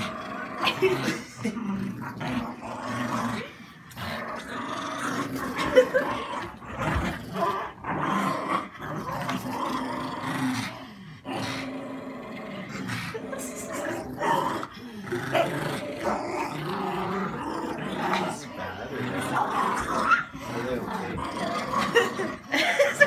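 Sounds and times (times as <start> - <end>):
dogs growling: 0.0 - 23.0.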